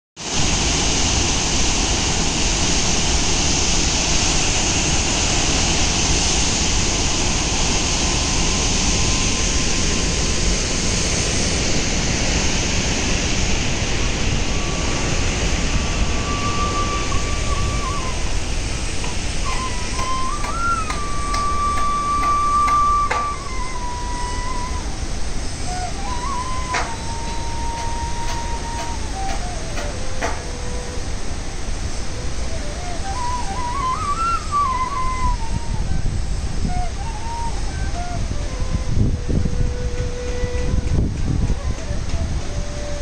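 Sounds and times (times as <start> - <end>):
waterfall roaring: 0.2 - 43.0.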